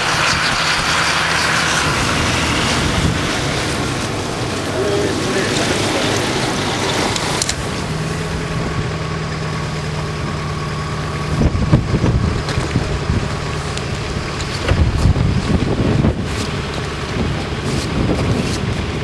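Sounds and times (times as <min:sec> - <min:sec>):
wind buffeting microphone: 0:00.0 - 0:09.3, 0:11.1 - 0:19.0
steady low hum: 0:00.0 - 0:19.0.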